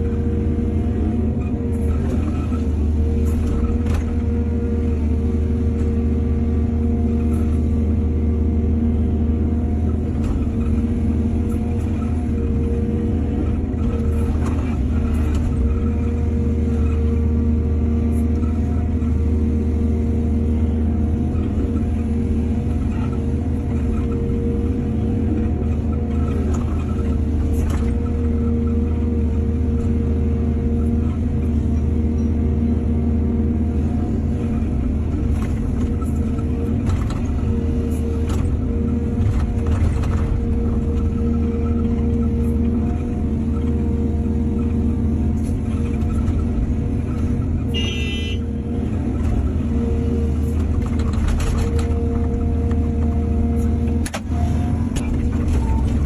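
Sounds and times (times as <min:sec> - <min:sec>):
diesel machinery engine running: 0:00.0 - 0:56.0.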